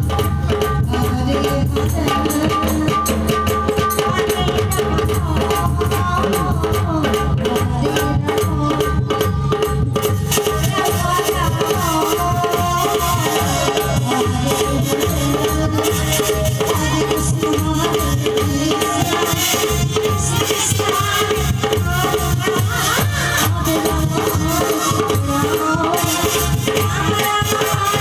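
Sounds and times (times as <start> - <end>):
fast hand-drum percussion: 0.0 - 28.0
amplified singing: 4.0 - 28.0.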